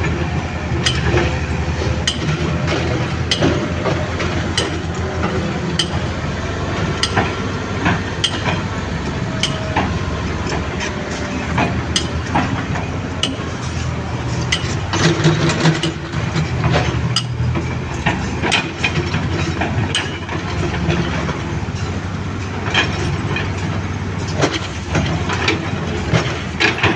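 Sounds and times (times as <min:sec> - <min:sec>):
excavator engine running: 0:00.0 - 0:26.9
metallic clanks and knocks: 0:00.0 - 0:26.9.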